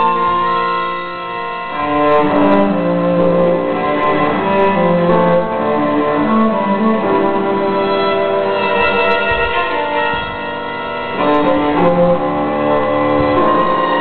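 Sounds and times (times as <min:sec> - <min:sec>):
bowed string music: 0:00.0 - 0:14.0.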